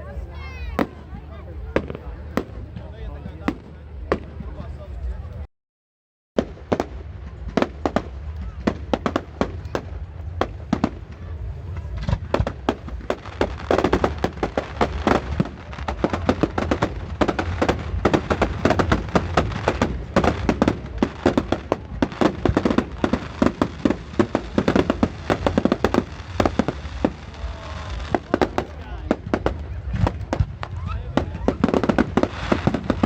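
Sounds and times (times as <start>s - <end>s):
fireworks bangs and crackling pops: 0.1s - 5.2s, 6.4s - 33.0s.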